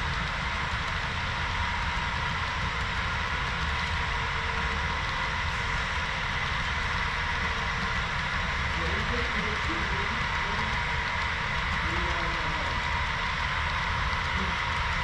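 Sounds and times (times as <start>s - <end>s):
model diesel locomotive engine drone: 0.0s - 15.0s.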